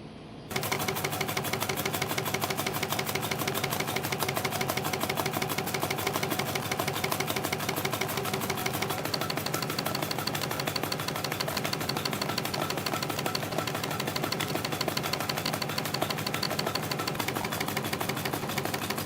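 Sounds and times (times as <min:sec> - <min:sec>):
spring coiling machine clicking: 0:00.5 - 0:19.0.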